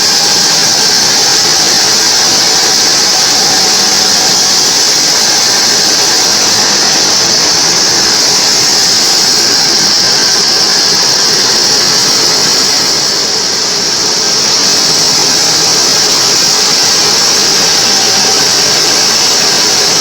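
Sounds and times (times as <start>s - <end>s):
band sawmill cutting wood: 0.0s - 20.0s.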